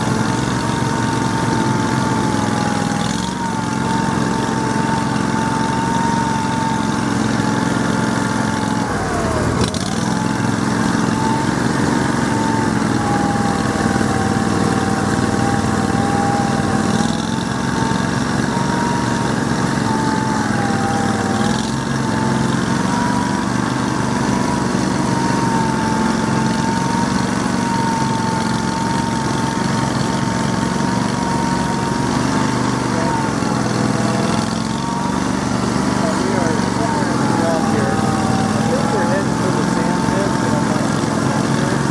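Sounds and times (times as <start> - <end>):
small engine running: 0.0 - 41.9.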